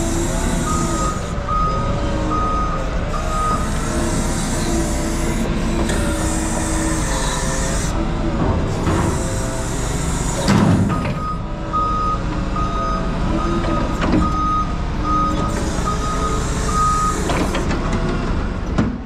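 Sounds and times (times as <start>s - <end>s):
forklift backup alarm beeping: 0.0s - 8.0s, 9.2s - 17.5s
forklift engine running: 0.0s - 19.0s.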